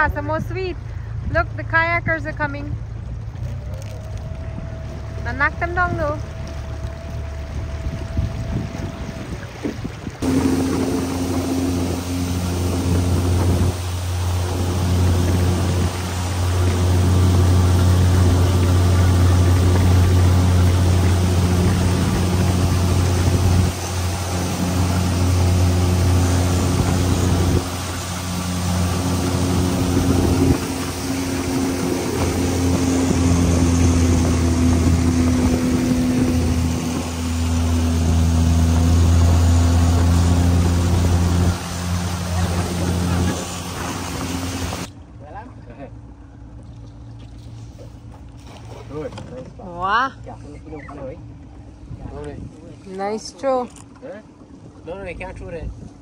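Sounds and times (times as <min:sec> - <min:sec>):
boat motor humming: 0:00.0 - 0:56.0.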